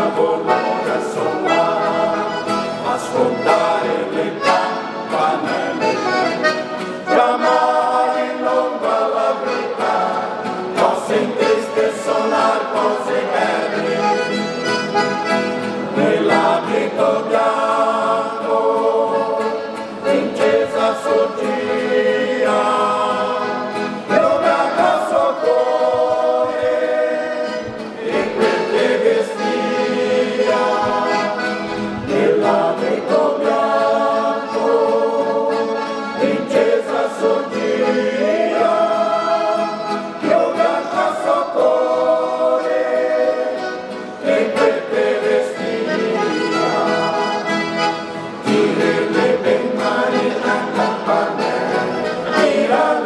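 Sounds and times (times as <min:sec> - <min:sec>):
mixed choir singing: 0:00.0 - 0:53.0.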